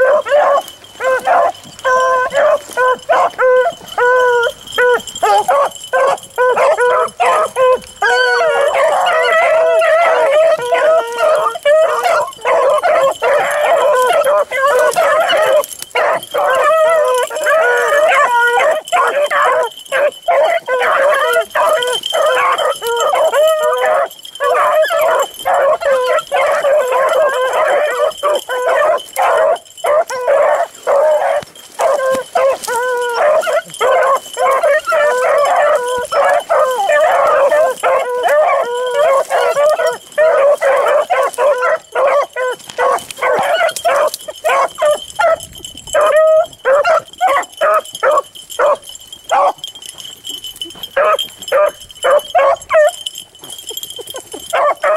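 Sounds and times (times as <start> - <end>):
dogs baying and yipping: 0.0 - 54.9.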